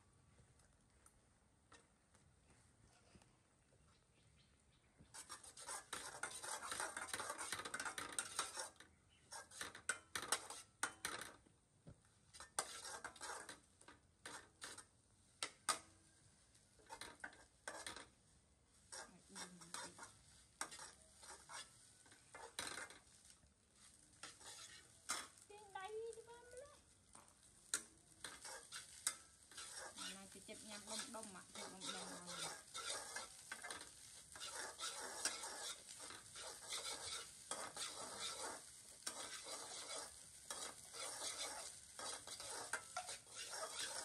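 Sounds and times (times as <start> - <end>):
metal spatula scraping a pan: 5.1 - 11.4, 12.3 - 44.0.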